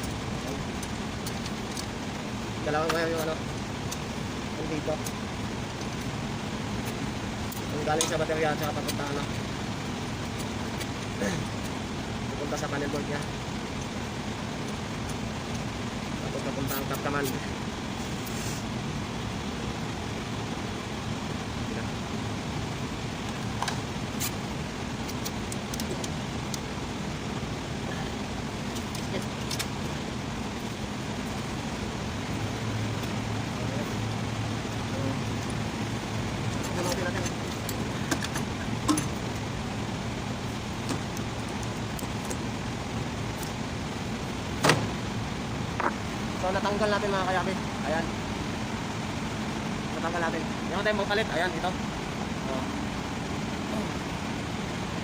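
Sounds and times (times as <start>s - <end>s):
background hum: 0.0s - 55.0s
steady background rumble: 0.0s - 55.0s.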